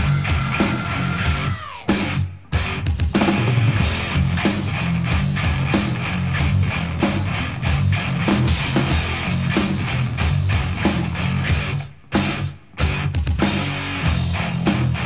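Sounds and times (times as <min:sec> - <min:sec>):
distorted electric guitar riffing: 0:00.0 - 0:15.0
drum kit: 0:00.0 - 0:15.0.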